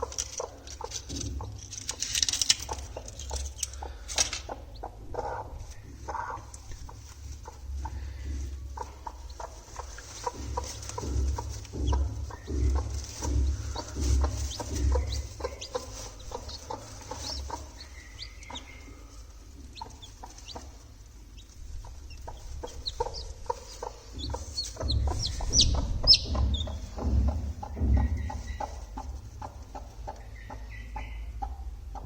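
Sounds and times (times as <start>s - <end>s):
chicks peeping: 0.0s - 32.0s
hen clucking: 0.0s - 32.0s
low rumble: 3.8s - 32.0s.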